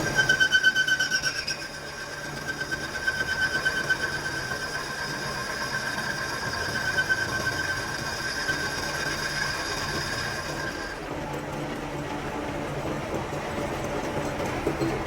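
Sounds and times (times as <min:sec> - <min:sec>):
workshop machine whining and clattering: 0:00.0 - 0:15.0.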